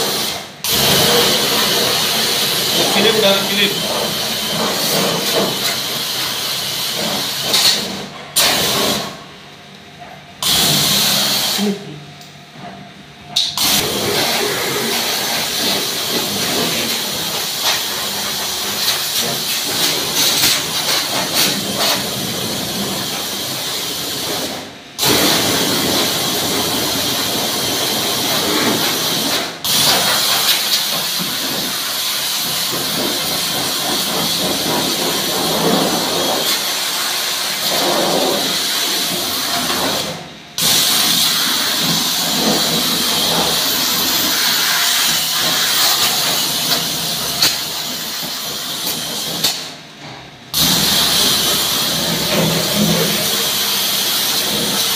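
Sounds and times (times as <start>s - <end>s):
pressure washer jet hissing: 0.0s - 7.8s, 10.4s - 11.7s, 13.6s - 49.7s, 50.6s - 54.9s.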